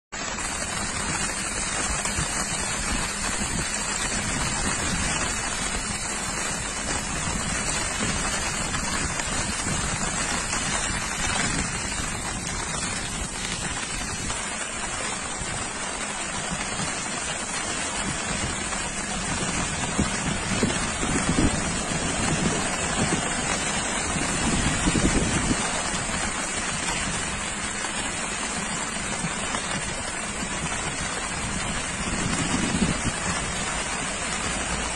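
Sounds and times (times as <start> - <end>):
rushing wind and water: 0.2 - 34.9
wind buffeting microphone: 0.4 - 34.9.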